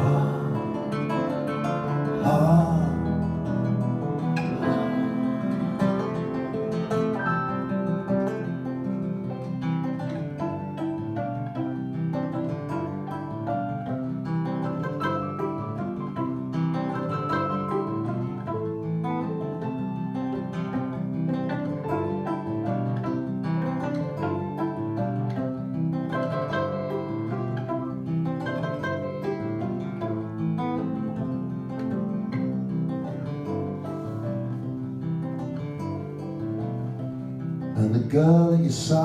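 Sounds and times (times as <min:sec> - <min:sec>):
electric guitar: 0:00.0 - 0:39.0.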